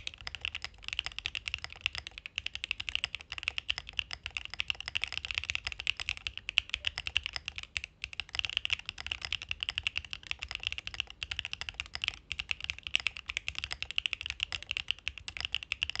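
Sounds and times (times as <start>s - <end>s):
fast mechanical keyboard typing: 0.0s - 16.0s.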